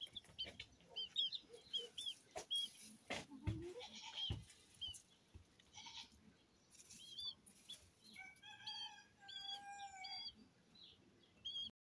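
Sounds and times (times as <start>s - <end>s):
chicks chirping: 0.0s - 5.7s, 6.7s - 11.7s.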